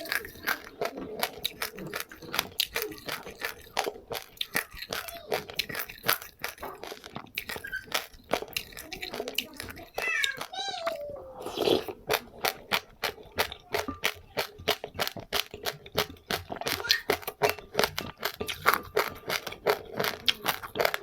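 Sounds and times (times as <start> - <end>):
person chewing crunchy seeds: 0.0 - 21.0.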